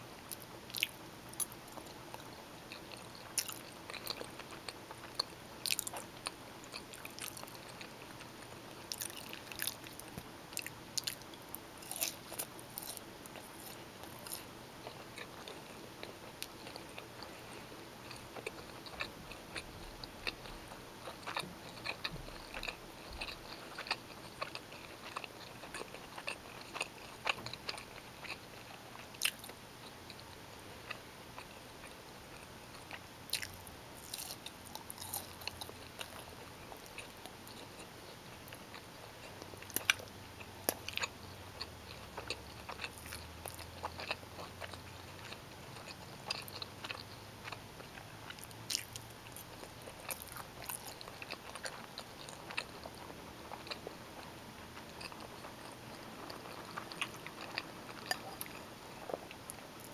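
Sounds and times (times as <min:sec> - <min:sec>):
chewing pasta: 0:00.2 - 0:59.9.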